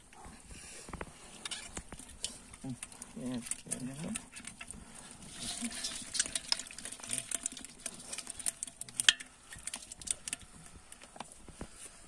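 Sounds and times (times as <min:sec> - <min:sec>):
fish slapping wetly in container: 0:01.6 - 0:11.7.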